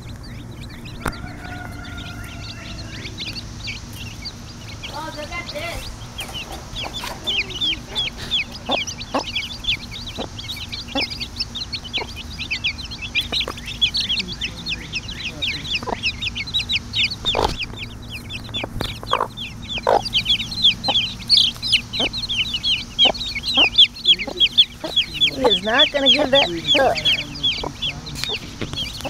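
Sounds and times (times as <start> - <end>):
chicks peeping: 0.0 - 29.0
hen clucking: 0.0 - 29.0.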